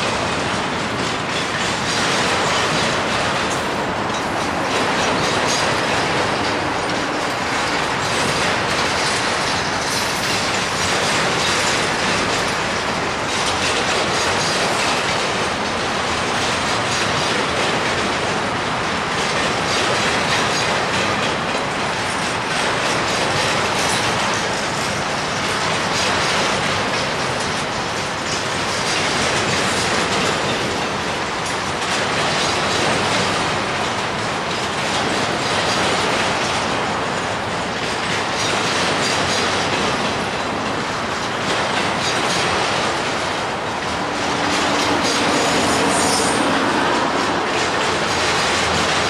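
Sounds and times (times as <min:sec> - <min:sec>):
train wheels rumbling on rails: 0:00.0 - 0:49.0
wheels clicking over track: 0:00.0 - 0:49.0.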